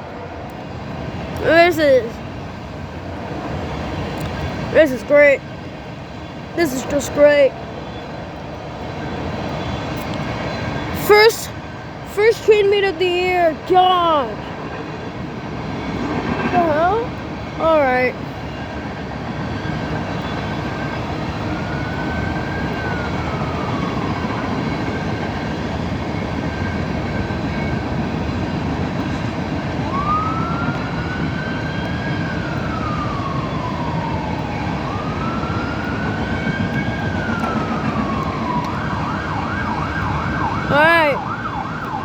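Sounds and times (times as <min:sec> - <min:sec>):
emergency siren wailing: 0:00.0 - 0:42.0
freight train rumbling: 0:00.0 - 0:42.0.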